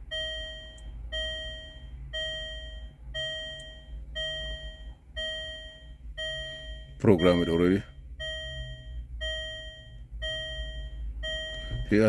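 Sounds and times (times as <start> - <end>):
car warning chime: 0.0 - 12.0.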